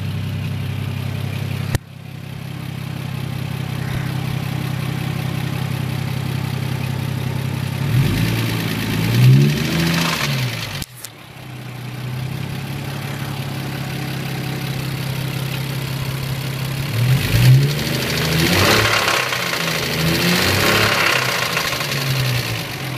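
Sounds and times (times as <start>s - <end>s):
car engine idling and revving: 0.0s - 22.9s.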